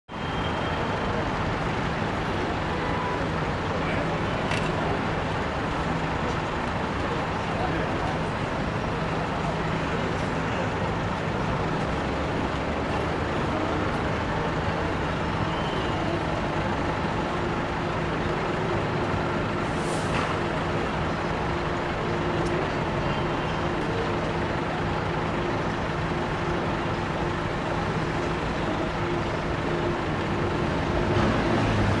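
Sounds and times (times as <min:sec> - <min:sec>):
large engine idling: 0:00.1 - 0:32.0
traffic noise: 0:00.1 - 0:32.0.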